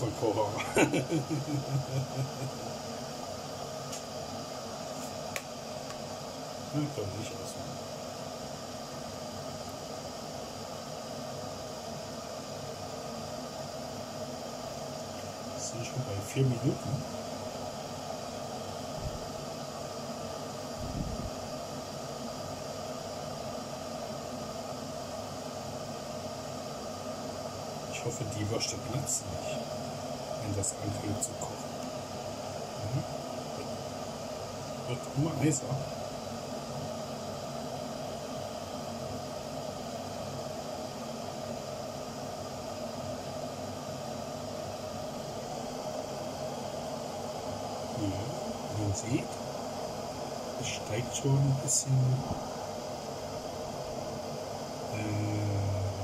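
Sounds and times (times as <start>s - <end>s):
kettle heating water hiss: 0.0s - 56.0s.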